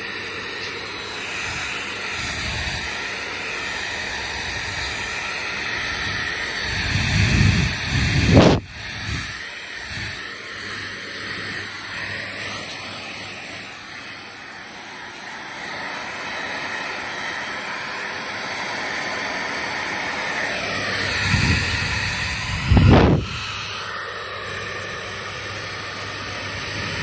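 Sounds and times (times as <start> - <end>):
hair dryer blowing air: 0.0 - 27.0.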